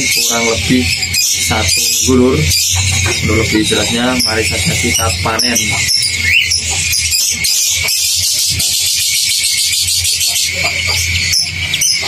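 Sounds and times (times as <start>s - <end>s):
cage birds chattering: 0.0s - 12.0s
steady low hum: 0.0s - 12.0s.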